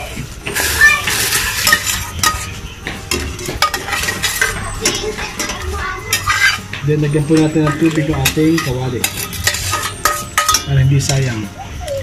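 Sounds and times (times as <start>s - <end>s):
metal spatula scraping pan: 0.0s - 11.5s.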